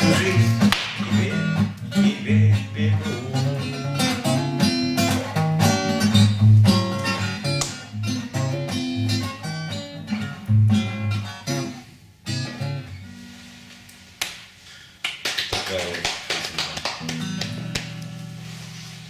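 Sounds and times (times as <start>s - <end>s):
acoustic guitar playing: 0.0s - 14.7s, 16.9s - 19.0s.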